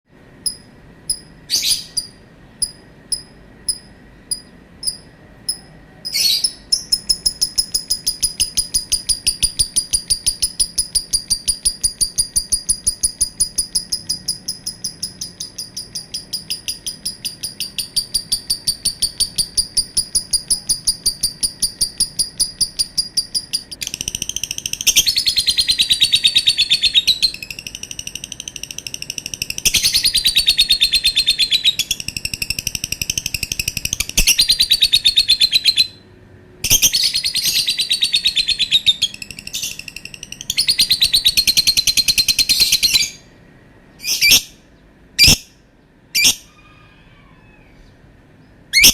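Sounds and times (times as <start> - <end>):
lovebird chirping: 0.4 - 36.0, 36.6 - 43.3, 43.9 - 44.6, 47.8 - 48.9.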